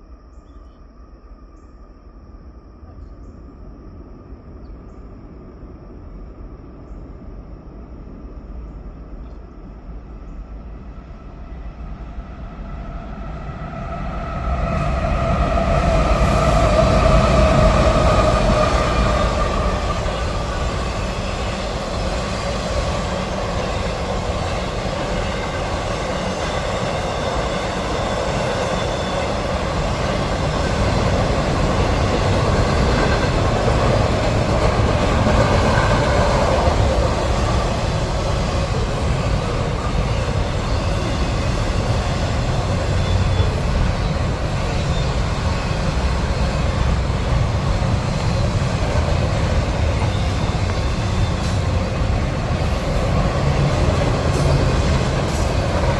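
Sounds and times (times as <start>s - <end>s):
train passing: 1.2s - 55.9s.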